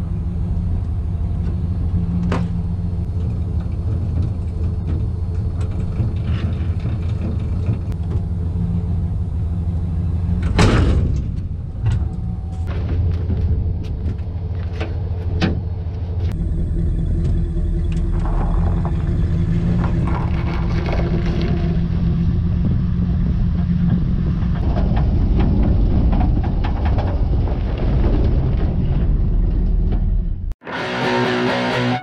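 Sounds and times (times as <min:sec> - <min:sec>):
trailer rumbling over snow: 0:00.0 - 0:32.0.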